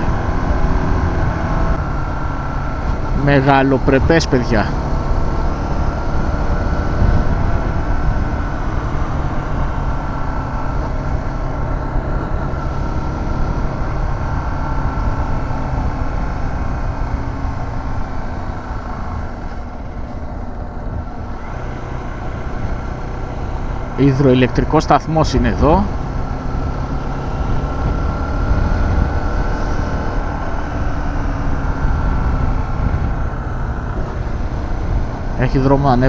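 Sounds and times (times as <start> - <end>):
wind noise: 0.0 - 3.2, 4.7 - 24.0, 25.9 - 35.4.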